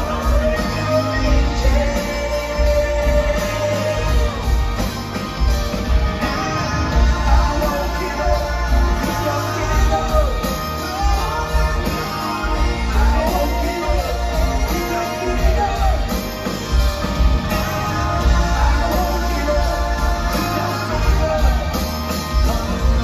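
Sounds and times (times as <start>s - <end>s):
drums: 0.0s - 23.0s
electric guitars: 0.0s - 23.0s
man singing lead vocal: 0.0s - 23.0s.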